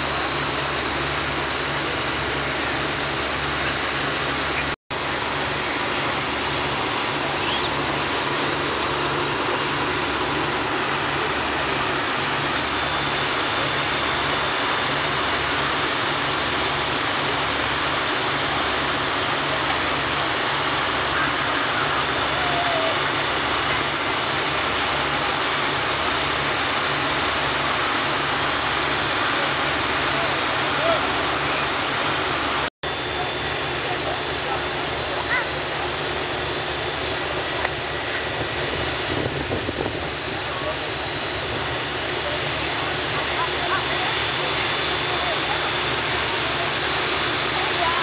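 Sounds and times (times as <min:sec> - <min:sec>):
fire engine pumps running: 0:00.0 - 0:48.0
hoses spraying water: 0:00.0 - 0:48.0.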